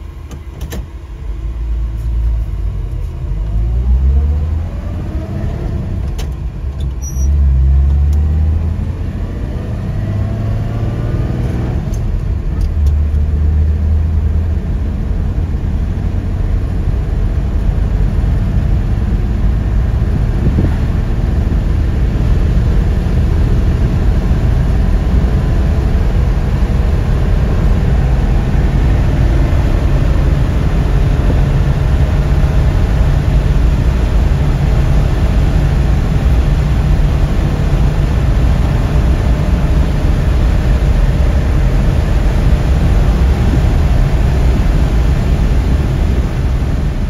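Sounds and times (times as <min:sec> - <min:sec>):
car engine and road noise: 0:00.0 - 0:47.0.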